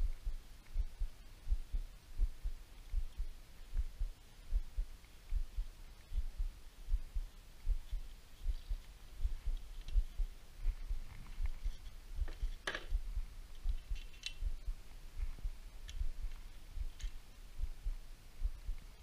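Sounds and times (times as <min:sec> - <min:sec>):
soft low thumps: 0:00.0 - 0:19.0.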